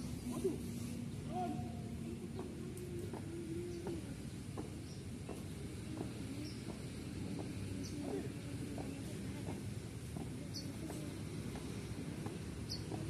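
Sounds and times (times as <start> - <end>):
birds chirping: 1.3 - 13.0.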